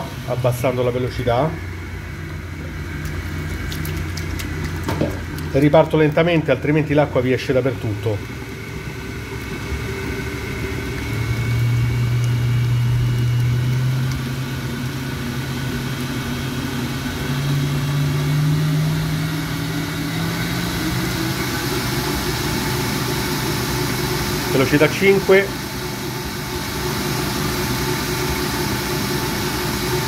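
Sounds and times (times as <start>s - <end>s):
stand mixer motor humming: 0.0s - 30.0s.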